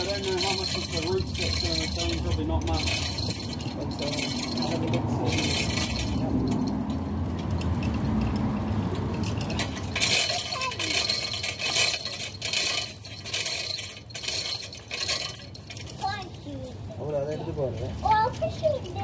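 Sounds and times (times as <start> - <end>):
chain clinking and rattling: 0.0 - 19.0.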